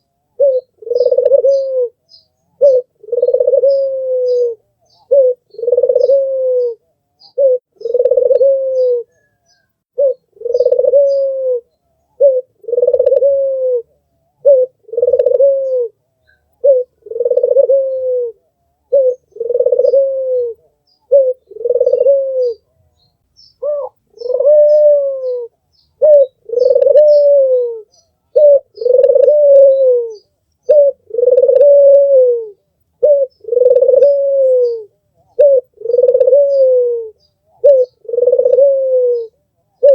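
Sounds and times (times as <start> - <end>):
small birds chirping: 0.0 - 13.3, 14.1 - 39.9
dove cooing: 0.0 - 23.0, 23.6 - 39.9.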